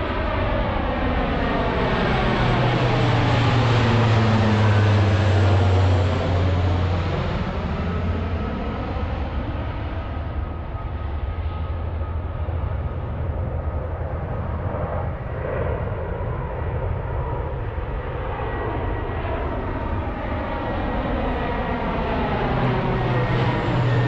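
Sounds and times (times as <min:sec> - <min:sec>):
turboprop engines running: 0:00.0 - 0:24.0.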